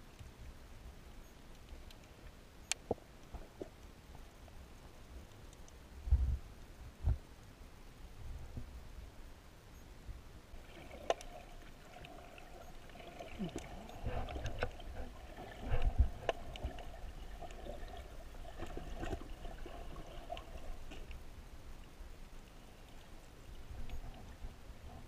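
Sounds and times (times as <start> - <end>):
faint underwater hum: 0.0 - 25.0.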